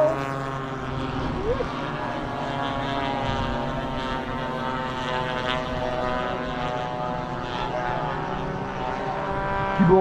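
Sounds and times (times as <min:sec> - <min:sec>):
model plane engines droning: 0:00.0 - 0:10.0.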